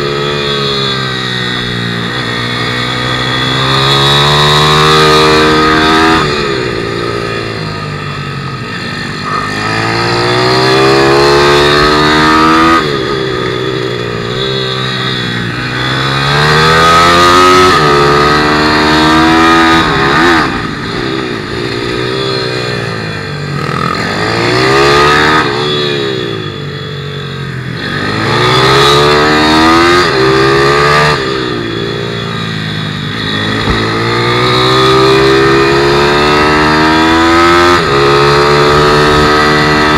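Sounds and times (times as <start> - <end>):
pit bike engine revving: 0.0 - 26.6, 27.6 - 39.9.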